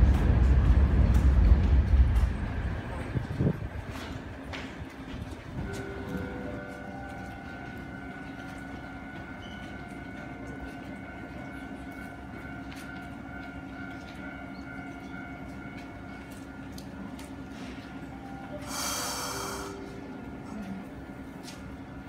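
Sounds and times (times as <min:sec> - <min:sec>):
tram electrical whine and hum: 0:00.0 - 0:22.0.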